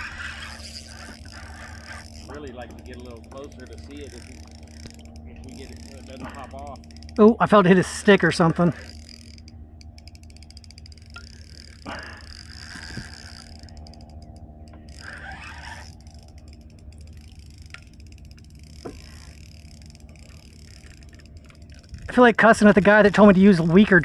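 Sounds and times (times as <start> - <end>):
fishing reel clicking: 0.0 - 24.0.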